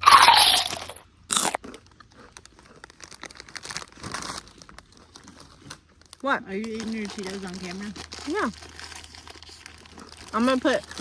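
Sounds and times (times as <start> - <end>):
snacks being crunched: 0.0 - 11.0.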